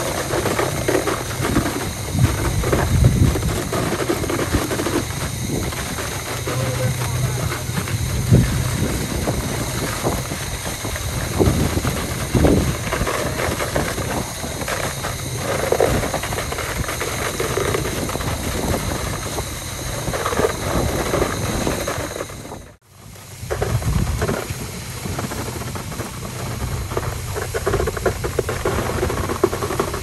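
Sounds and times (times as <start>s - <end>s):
concrete pump truck running: 0.0s - 30.0s.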